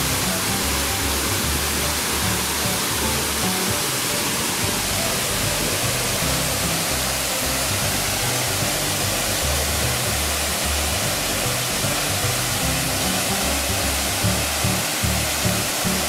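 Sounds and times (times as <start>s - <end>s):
low background music: 0.0s - 16.0s
waterfall rushing: 0.0s - 16.0s.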